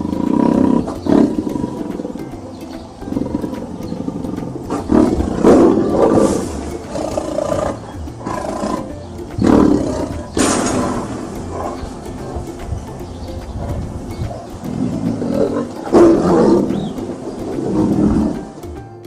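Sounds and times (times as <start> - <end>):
big cat roaring and growling: 0.0 - 2.2, 3.1 - 12.5, 14.5 - 18.5.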